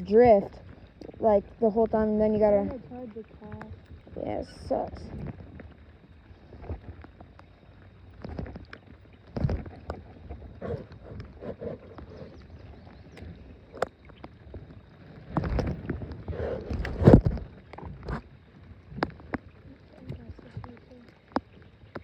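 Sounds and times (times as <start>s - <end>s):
knocks and thumps in a boat: 0.0s - 22.0s.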